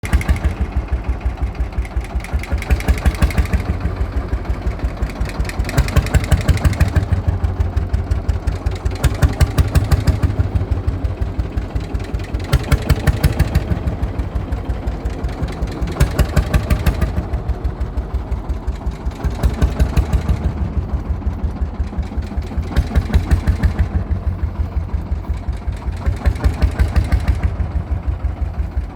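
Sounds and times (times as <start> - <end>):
tractor engine idling: 0.0 - 28.9.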